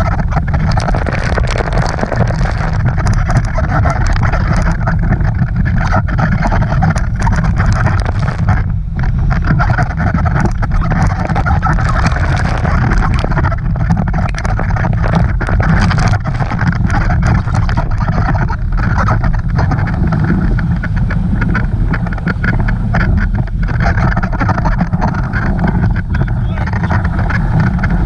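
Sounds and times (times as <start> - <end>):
motorboat running: 0.0 - 28.0
wind buffeting microphone: 0.0 - 28.0.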